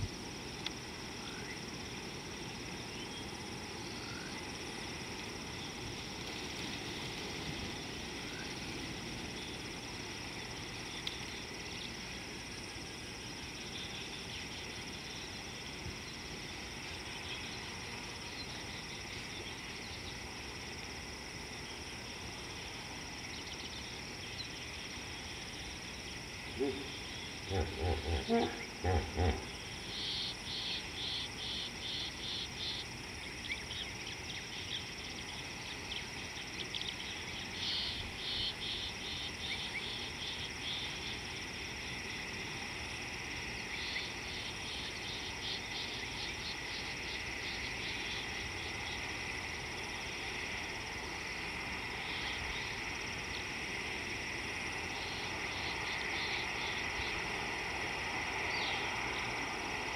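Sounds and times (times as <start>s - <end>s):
high insect drone: 0.0s - 59.9s
insects chirping in rapid pulses: 0.0s - 59.9s.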